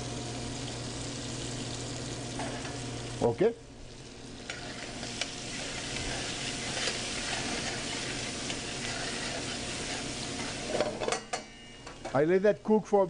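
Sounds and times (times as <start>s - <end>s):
food sizzling in hot oil: 0.0s - 12.4s.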